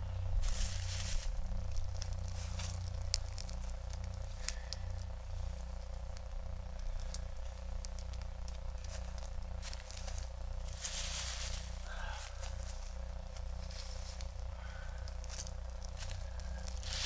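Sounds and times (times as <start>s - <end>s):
campfire crackling and popping: 0.0s - 17.0s
steady low rumble: 0.0s - 17.0s.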